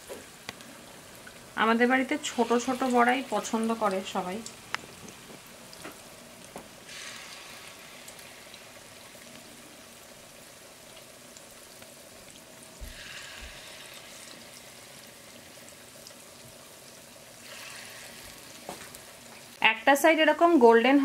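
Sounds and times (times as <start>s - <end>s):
batter sizzling in hot oil: 0.0s - 21.0s.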